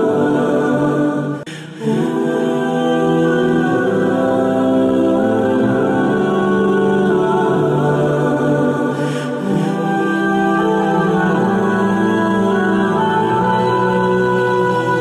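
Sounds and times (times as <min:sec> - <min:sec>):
calm music of held chords: 0:00.0 - 0:15.0.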